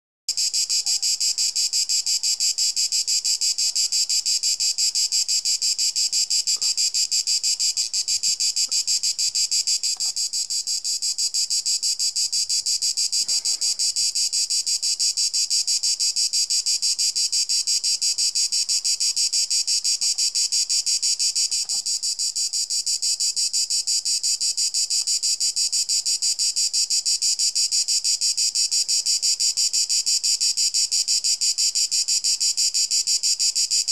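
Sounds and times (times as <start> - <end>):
cicada buzzing: 0.3 - 30.5.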